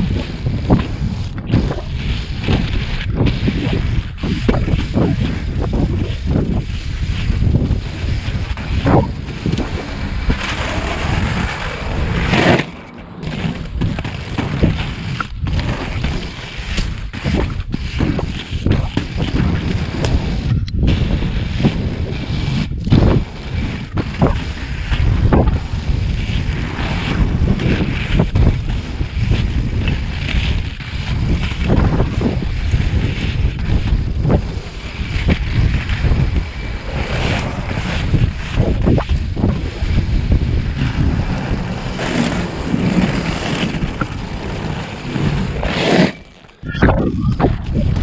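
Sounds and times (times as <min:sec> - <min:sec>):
skate wheels rolling on asphalt: 0:00.0 - 0:48.0
wind on microphone: 0:00.0 - 0:48.0.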